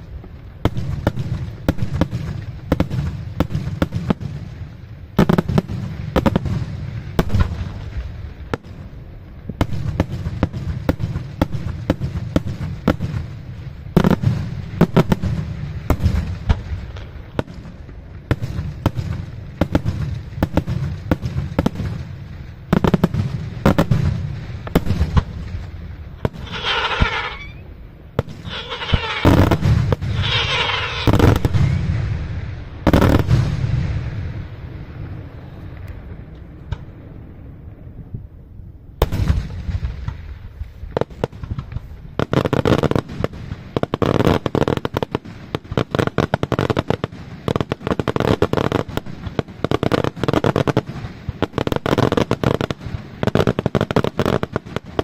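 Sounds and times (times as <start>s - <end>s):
fireworks bursting: 0.0s - 37.4s, 39.0s - 55.0s.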